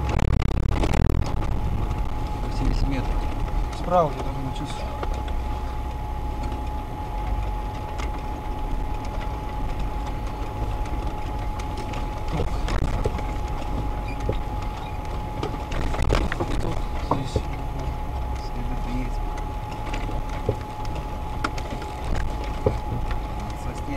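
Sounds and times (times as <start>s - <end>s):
vehicle engine rumbling: 0.0s - 23.9s.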